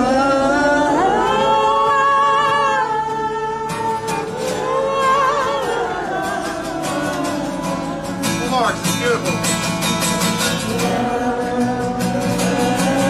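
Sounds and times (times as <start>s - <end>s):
man singing: 0.0s - 9.5s, 10.4s - 13.0s
acoustic guitar: 0.0s - 13.0s.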